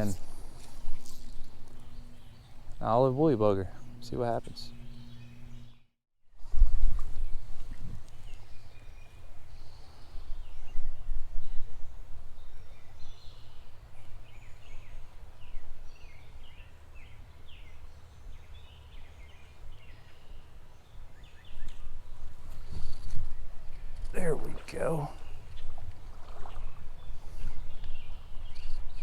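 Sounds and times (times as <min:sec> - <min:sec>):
songbirds chirping: 0:00.0 - 0:06.0, 0:07.1 - 0:29.0.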